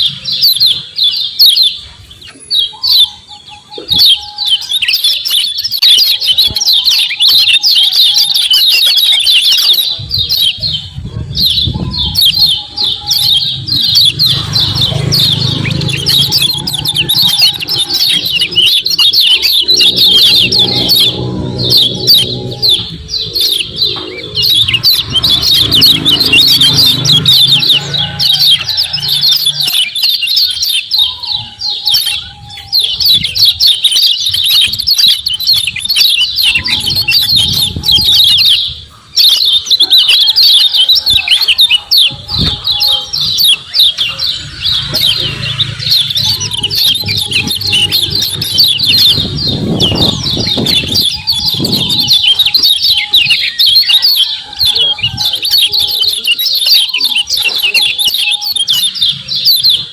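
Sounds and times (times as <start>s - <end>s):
white-eye chirping: 0.0s - 59.9s.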